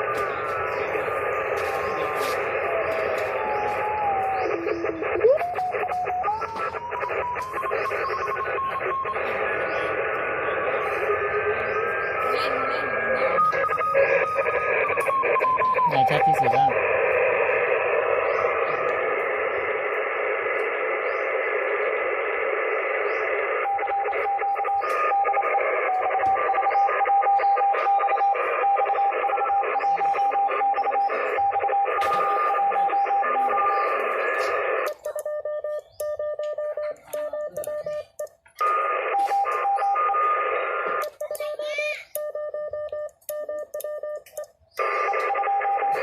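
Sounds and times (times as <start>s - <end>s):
radio band hiss: 0.0s - 35.1s, 36.7s - 41.4s, 44.7s - 46.0s
morse code beeps: 0.0s - 46.0s.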